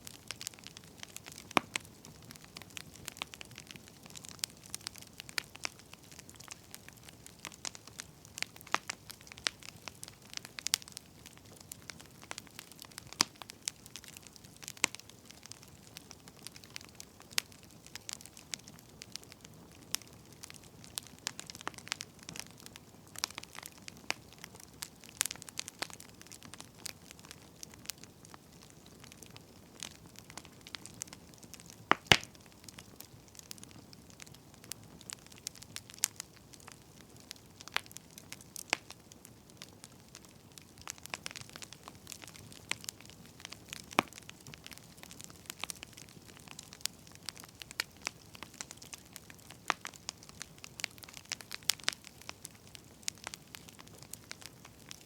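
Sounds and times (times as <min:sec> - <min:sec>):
low fire hiss: 0:00.0 - 0:55.0
wood fire crackling and popping: 0:00.0 - 0:55.0.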